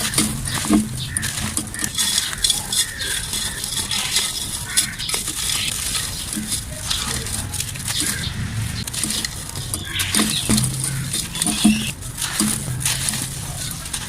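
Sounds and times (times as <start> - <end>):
dry mud crumbling: 0.0 - 14.0.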